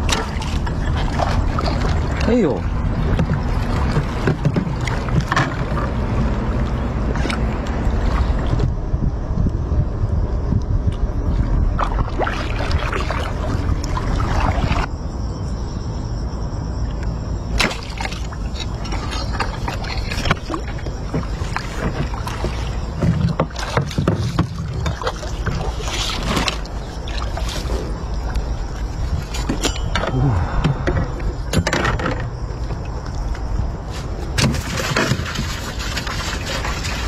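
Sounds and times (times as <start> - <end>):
water splashing and sloshing: 0.0 - 9.4, 10.6 - 15.3, 15.9 - 37.0
steady low rumble: 0.0 - 23.4, 26.5 - 34.4.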